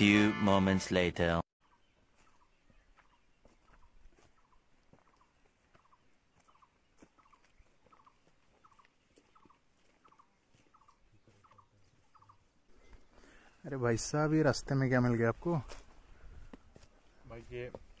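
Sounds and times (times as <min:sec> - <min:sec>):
footsteps in dry brush: 0:01.7 - 0:13.7, 0:15.2 - 0:18.0.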